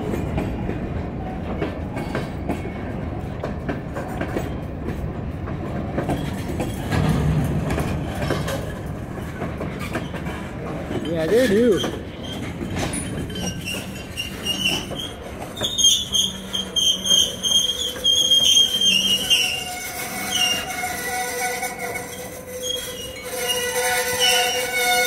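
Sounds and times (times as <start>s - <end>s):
train wheels squealing on rails: 0.0s - 3.4s, 6.0s - 25.0s
low rumble of freight cars: 0.0s - 25.0s.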